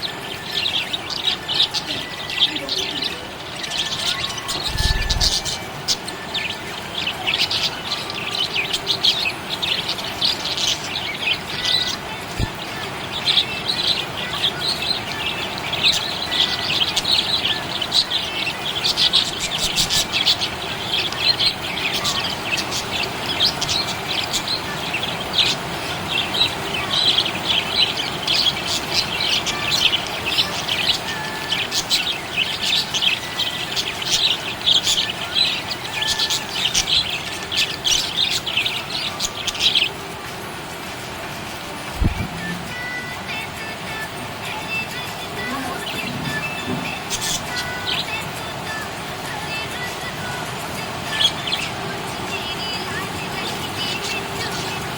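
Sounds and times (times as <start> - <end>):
budgerigars chirping: 0.0 - 43.3, 44.0 - 49.2, 50.9 - 54.9.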